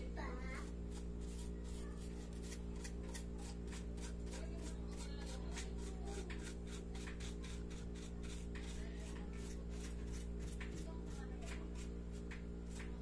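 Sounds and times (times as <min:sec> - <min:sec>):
steady low hum: 0:00.0 - 0:13.0
bristle brush scrubbing plastic: 0:00.4 - 0:13.0.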